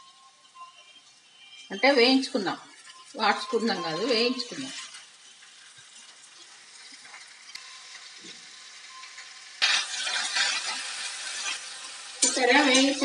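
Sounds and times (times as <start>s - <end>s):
leaves sizzling in oil: 0.0s - 13.0s.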